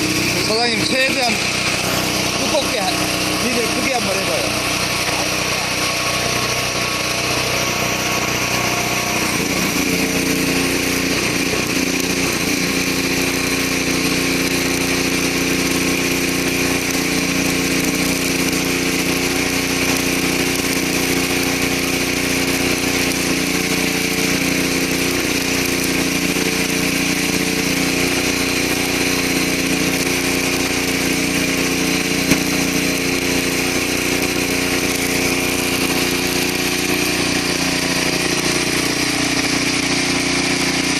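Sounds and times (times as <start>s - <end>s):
generator engine running: 0.0s - 40.9s.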